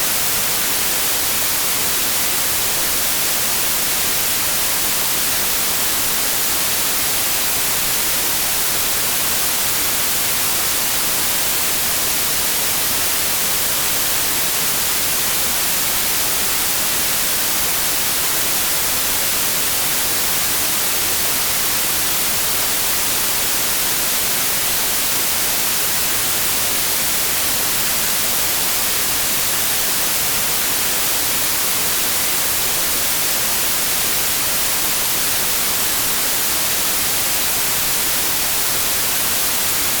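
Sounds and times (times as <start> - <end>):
white noise hiss: 0.0 - 40.0.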